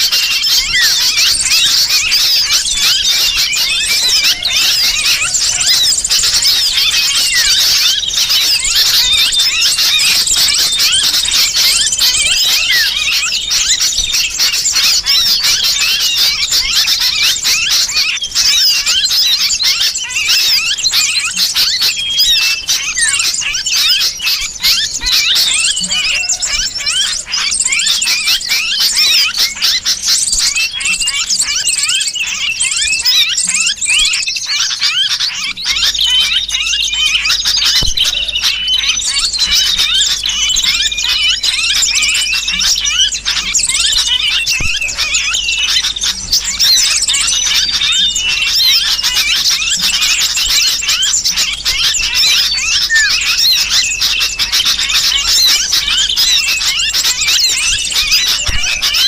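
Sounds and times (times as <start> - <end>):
bird distress calls: 0.0 - 59.0
small birds chirping: 0.0 - 59.0.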